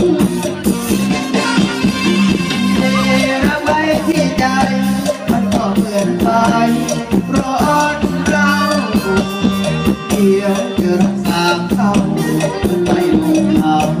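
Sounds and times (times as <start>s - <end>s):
pop song by band: 0.0s - 14.0s
shaker percussion: 2.8s - 14.0s.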